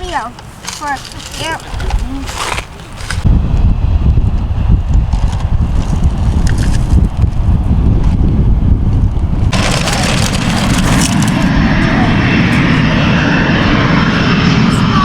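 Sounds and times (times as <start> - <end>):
jet engines roaring: 0.0 - 15.0
wind rumble on microphone: 0.0 - 15.0.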